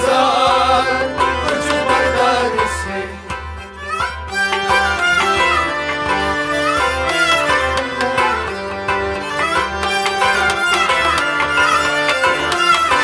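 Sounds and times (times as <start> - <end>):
melodic instrumental music: 0.0 - 13.0.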